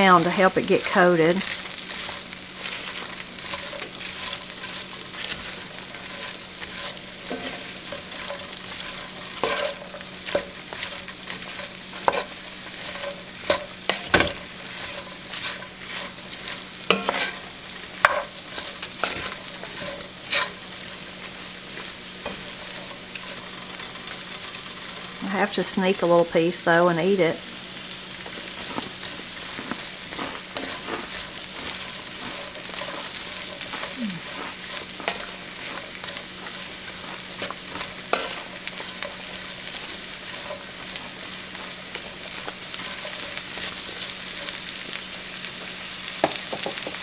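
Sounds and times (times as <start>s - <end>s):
cabbage sizzling in skillet: 0.0s - 47.0s
wooden spoon scraping pan: 0.2s - 24.6s, 28.3s - 44.7s.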